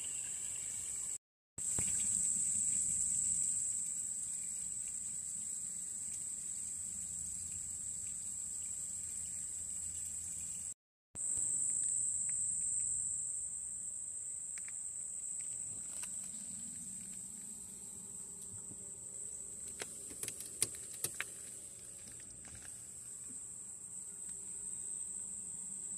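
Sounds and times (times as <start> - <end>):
high-pitched insect chorus: 0.0 - 20.4, 22.9 - 25.9.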